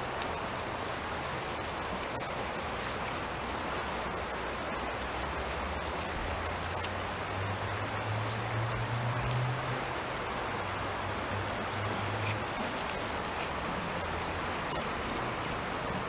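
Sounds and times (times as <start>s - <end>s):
steady rushing hiss: 0.0s - 16.0s.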